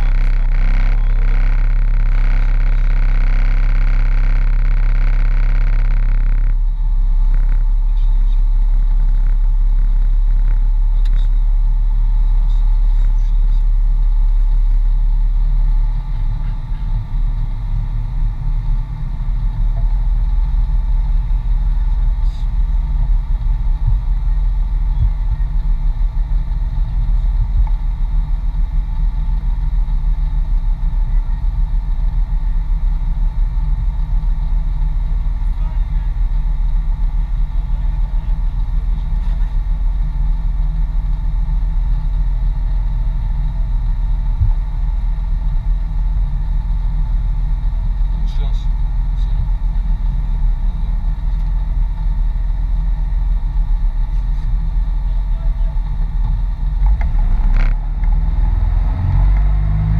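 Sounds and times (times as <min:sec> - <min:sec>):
off-road vehicle engine rumble: 0:00.0 - 0:59.9.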